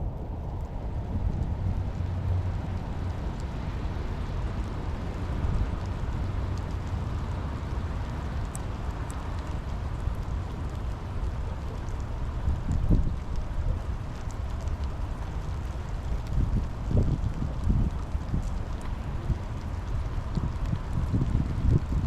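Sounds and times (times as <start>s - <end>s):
constant low rumble: 0.0s - 22.0s
steady rain falling: 0.0s - 22.0s.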